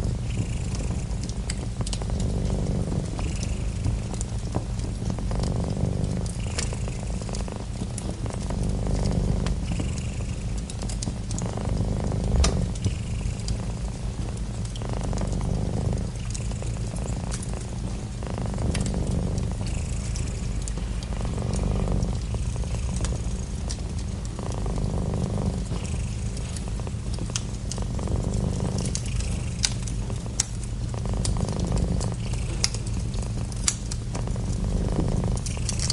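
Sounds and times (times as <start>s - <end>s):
cat purring: 0.0s - 35.9s
fireplace crackling and popping: 0.0s - 35.9s.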